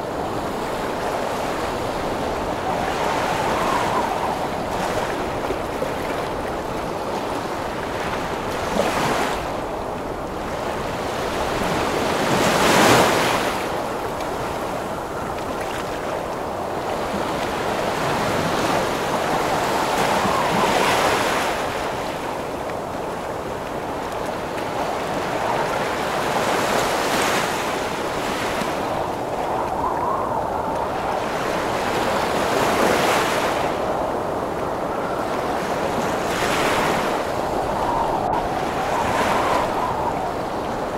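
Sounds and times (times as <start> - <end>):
heavy ocean waves breaking: 0.0 - 40.9
wind: 0.0 - 40.9.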